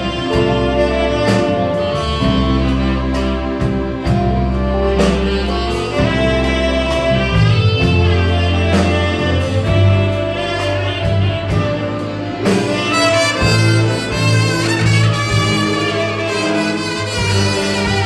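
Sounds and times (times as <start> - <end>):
orchestra playing instrumental piece: 0.0 - 18.0
steady drum beat: 0.0 - 18.0.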